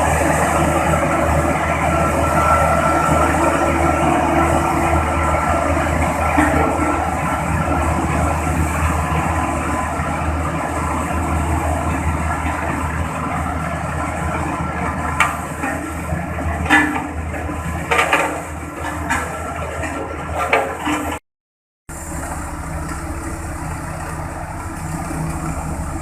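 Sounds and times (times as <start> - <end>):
road compactor engine running: 0.0 - 21.2, 21.9 - 26.0.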